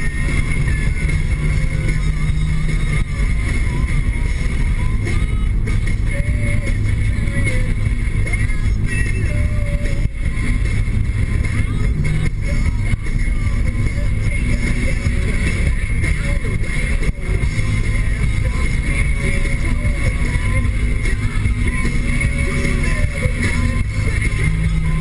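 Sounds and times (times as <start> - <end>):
car engine droning: 0.0 - 25.0
road and tyre noise: 0.0 - 25.0.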